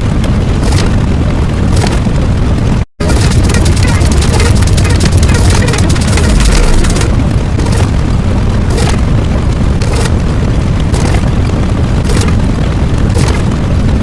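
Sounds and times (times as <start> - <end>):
distorted booming rumble: 0.0 - 14.0.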